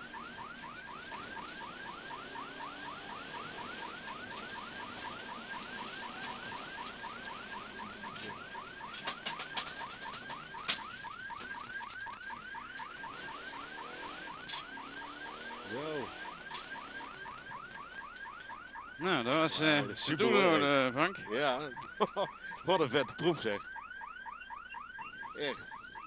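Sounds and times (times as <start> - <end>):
electronic siren yelping: 0.0 - 26.0.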